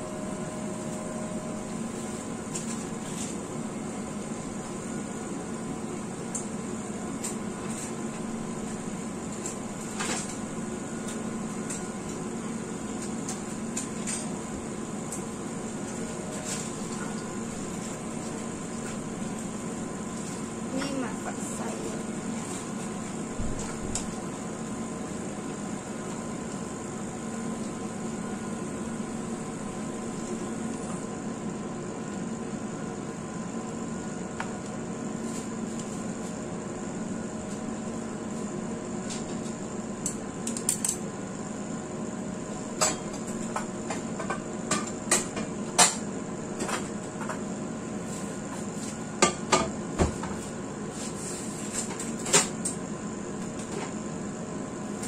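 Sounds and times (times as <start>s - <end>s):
mechanical kitchen hum: 0.0s - 55.0s.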